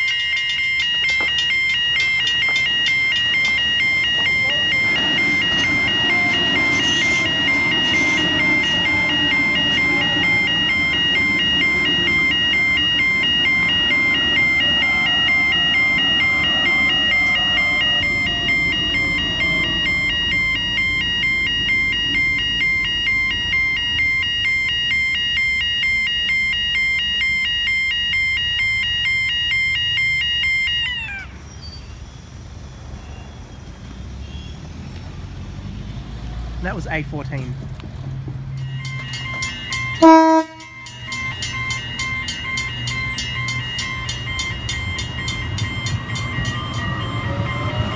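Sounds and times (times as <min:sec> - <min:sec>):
electric train motor whine: 0:00.0 - 0:31.2, 0:38.6 - 0:47.9.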